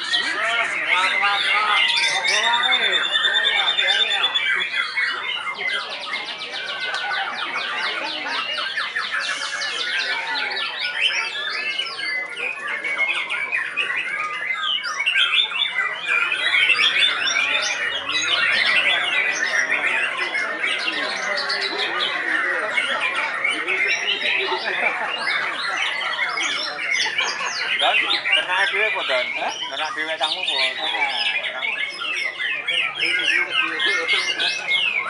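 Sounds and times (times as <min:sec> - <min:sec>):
bird rapid-fire song: 0:00.0 - 0:35.0
songbirds chirping and trilling: 0:00.0 - 0:35.0.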